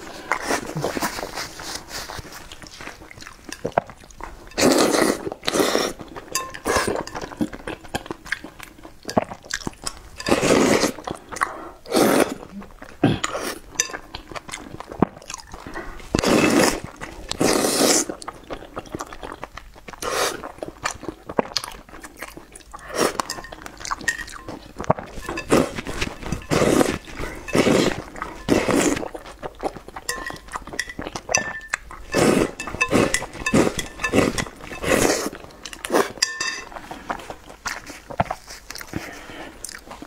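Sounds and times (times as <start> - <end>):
wet chewing: 0.0 - 40.0.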